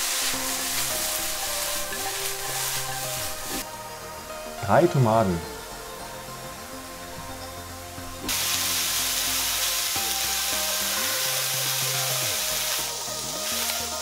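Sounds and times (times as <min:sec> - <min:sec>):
vegetables sizzling in a pan: 0:00.0 - 0:04.6, 0:05.4 - 0:14.0
light background music: 0:00.0 - 0:14.0.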